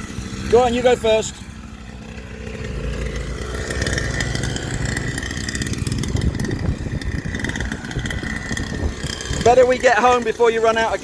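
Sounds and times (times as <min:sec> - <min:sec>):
dirt bike engine running: 0:00.0 - 0:11.0
steady high whine: 0:00.0 - 0:11.0.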